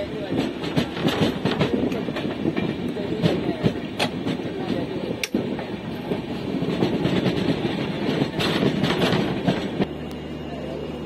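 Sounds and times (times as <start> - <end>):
wheels clacking over rail joints: 0.0 - 9.9
rumble of train wheels: 0.0 - 11.0.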